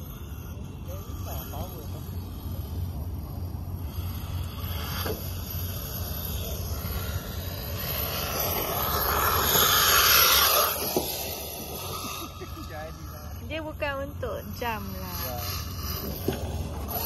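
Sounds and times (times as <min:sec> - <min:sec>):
rc truck motor whine: 0:00.0 - 0:17.0
steady low rumble: 0:00.7 - 0:17.0.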